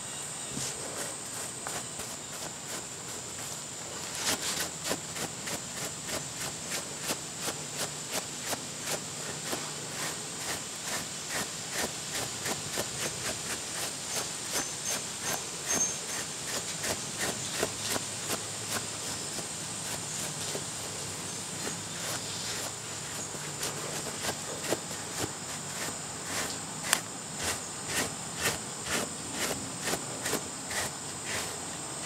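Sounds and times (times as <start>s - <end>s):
rubber brush rubbing dog's coat: 0.6s - 31.6s.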